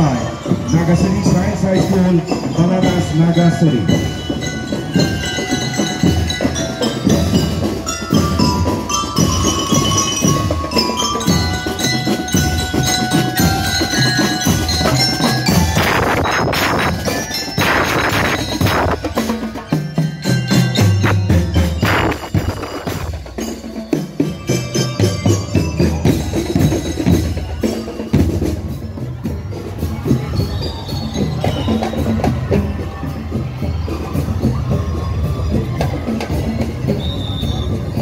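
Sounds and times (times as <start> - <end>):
bell lyres playing melody: 0.0 - 38.0
snare and bass drums beating: 3.8 - 38.0.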